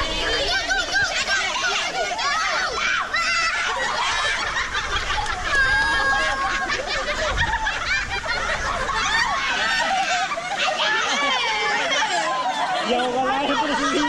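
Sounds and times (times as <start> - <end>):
crowd chattering and laughing: 0.0 - 14.0.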